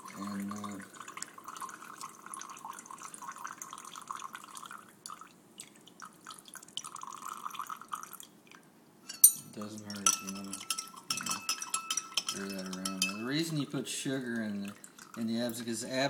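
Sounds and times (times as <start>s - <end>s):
water dripping into a glass: 0.0s - 15.8s.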